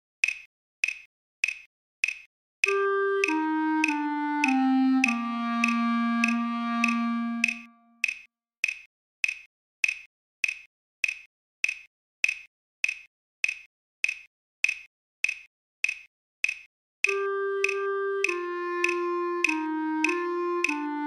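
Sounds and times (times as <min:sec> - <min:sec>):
metronome clicking: 0:00.2 - 0:21.0.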